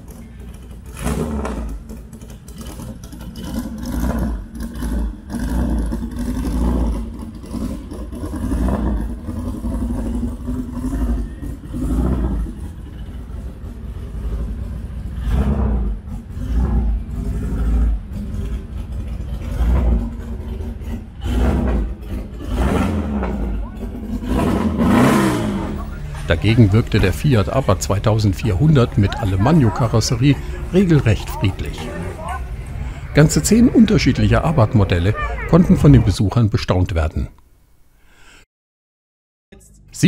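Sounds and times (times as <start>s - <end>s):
car engine revving: 0.0s - 37.1s.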